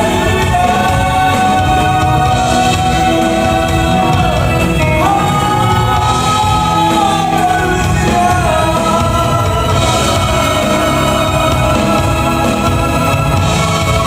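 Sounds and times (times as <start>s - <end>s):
band accompaniment: 0.0s - 14.0s
voices singing: 0.0s - 14.0s.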